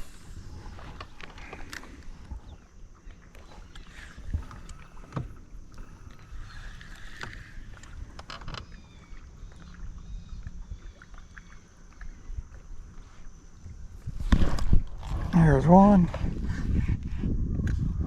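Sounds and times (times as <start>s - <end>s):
low rumble of wind and water: 0.0s - 18.0s.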